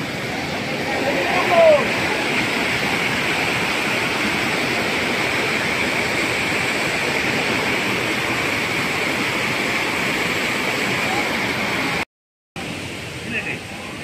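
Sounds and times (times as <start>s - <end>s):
stream rushing over rocks: 0.0s - 12.0s, 12.6s - 14.0s.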